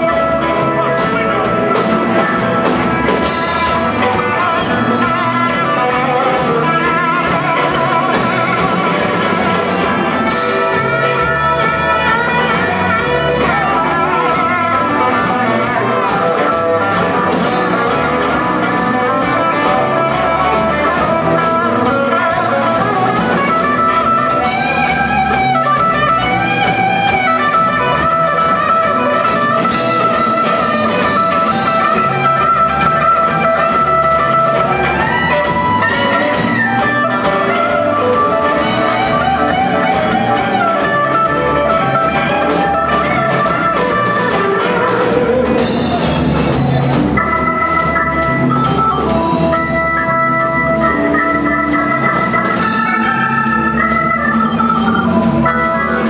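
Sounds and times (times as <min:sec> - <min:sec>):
bass guitar: 0:00.0 - 0:56.0
drum kit: 0:00.0 - 0:56.0
electric guitar solo: 0:00.0 - 0:56.0
organ holding chords: 0:00.0 - 0:56.0.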